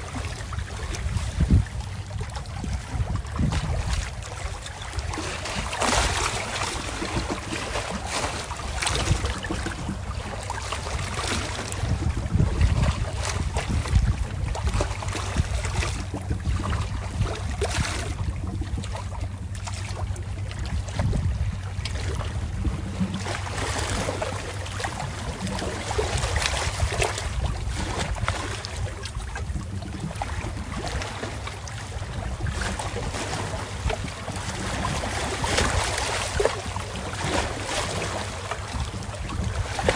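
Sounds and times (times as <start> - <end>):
steady low hum: 0.0 - 39.9
wind buffeting microphone: 0.0 - 39.9.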